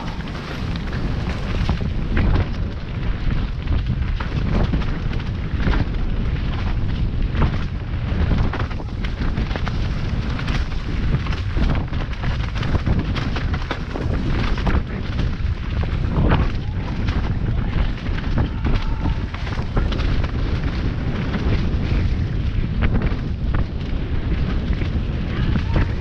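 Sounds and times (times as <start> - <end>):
bike rattling over bumps: 0.0 - 26.0
wind buffeting microphone: 0.0 - 26.0.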